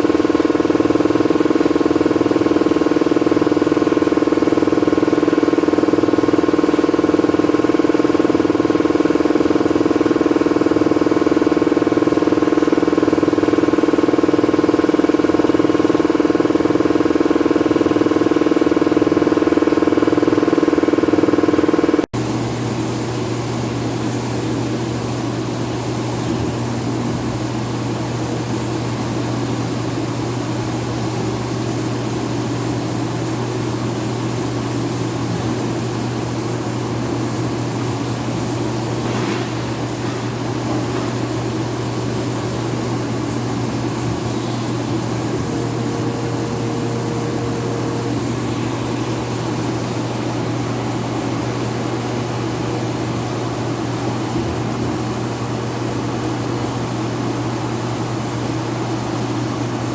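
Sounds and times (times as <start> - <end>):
machining center humming: 0.0 - 59.9.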